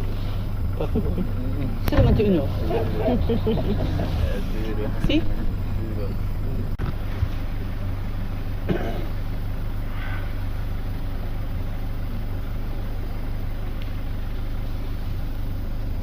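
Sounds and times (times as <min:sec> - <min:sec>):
outboard motor humming: 0:00.0 - 0:16.0.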